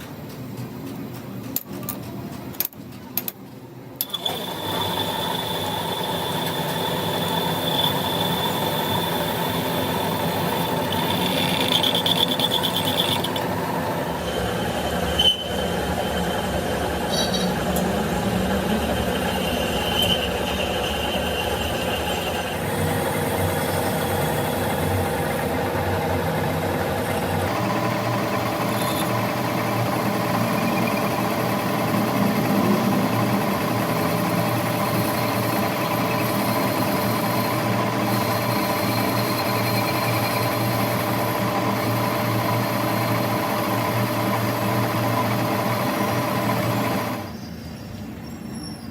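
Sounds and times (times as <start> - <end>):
machine tool running: 4.0 - 47.4.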